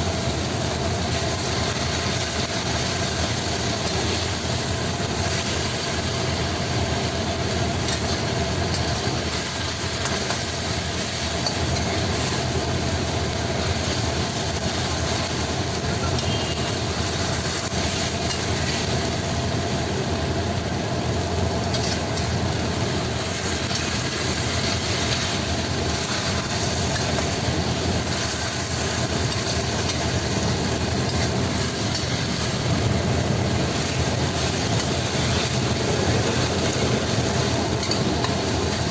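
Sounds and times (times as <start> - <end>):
stir-fry sizzling in pan: 0.0 - 38.9.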